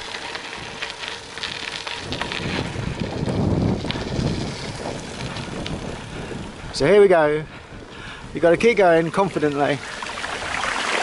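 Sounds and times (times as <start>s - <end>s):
bike tyres rolling on dirt: 0.0s - 11.0s
wind buffeting microphone: 0.0s - 11.0s.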